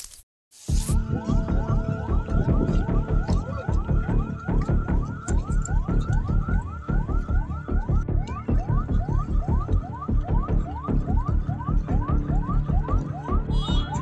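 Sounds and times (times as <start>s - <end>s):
pulsing beat: 0.9s - 14.0s.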